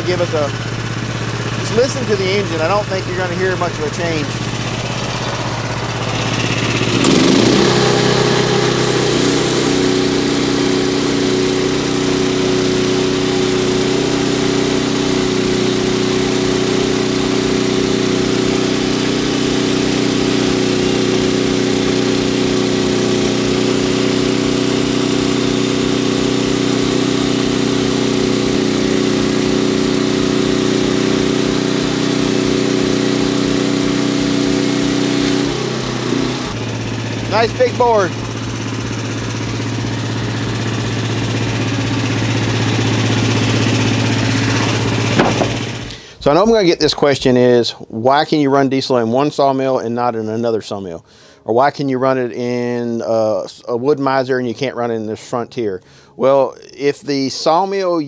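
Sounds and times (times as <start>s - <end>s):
sawmill engine running: 0.0s - 47.2s.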